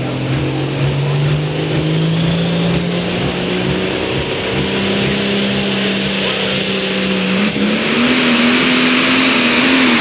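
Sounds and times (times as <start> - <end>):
diesel tractor engine running hard: 0.0 - 10.0.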